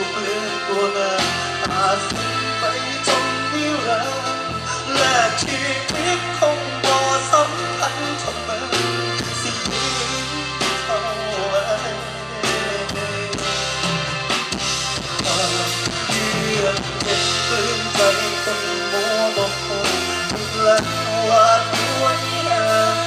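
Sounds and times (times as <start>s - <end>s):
live rock band playing: 0.0s - 23.0s
male lead vocal: 0.0s - 23.0s.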